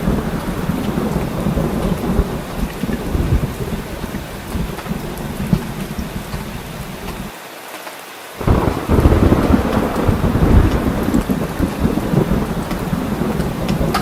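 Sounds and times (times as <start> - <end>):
low rolling thunder rumble: 0.0 - 7.2, 8.4 - 14.0
heavy rain: 0.0 - 14.0.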